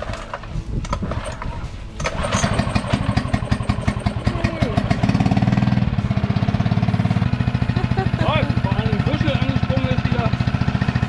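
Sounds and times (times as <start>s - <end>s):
outboard motor puttering: 0.0s - 11.0s.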